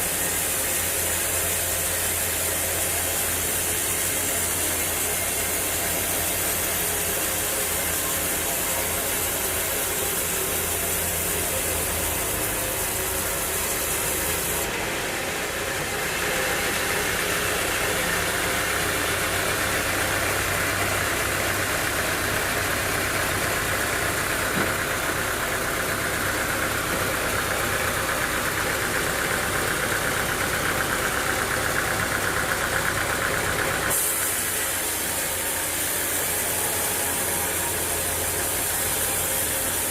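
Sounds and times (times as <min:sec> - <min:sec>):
sawmill machinery with engine: 0:00.0 - 0:39.9.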